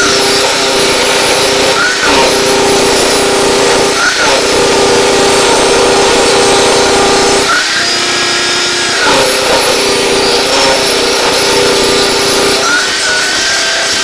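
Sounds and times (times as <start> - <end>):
electric saw cutting wood: 0.0 - 14.0.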